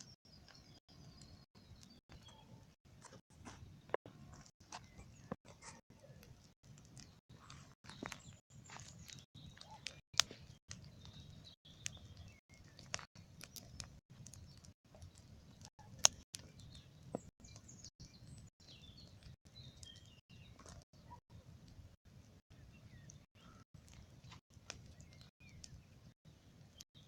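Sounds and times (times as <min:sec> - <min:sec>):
bonfire crackling: 0:00.0 - 0:27.0
burning wood popping: 0:00.4 - 0:20.8, 0:23.0 - 0:25.9.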